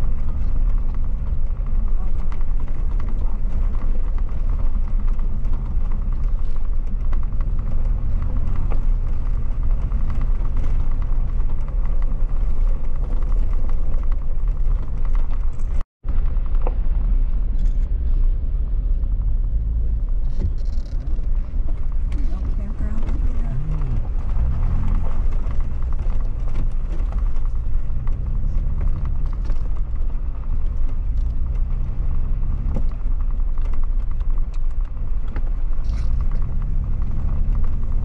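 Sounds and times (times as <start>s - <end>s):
vehicle engine and tyre rumble: 0.0s - 38.0s.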